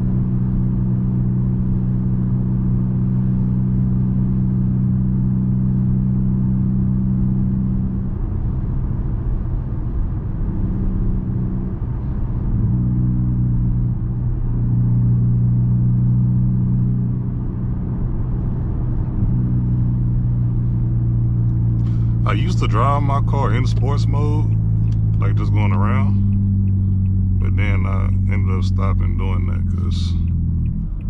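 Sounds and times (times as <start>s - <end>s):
car exhaust droning: 0.0s - 31.0s.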